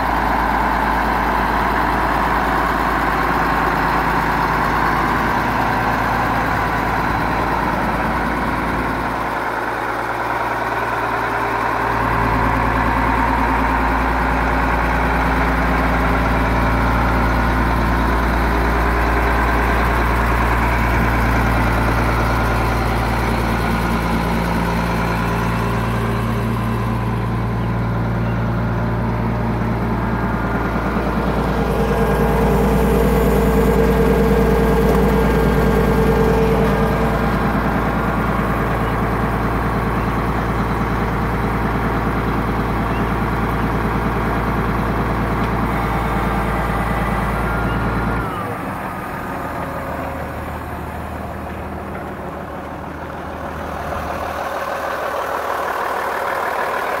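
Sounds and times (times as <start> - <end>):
engine whine: 0.0 - 57.0
tractor diesel engine idling: 0.0 - 57.0.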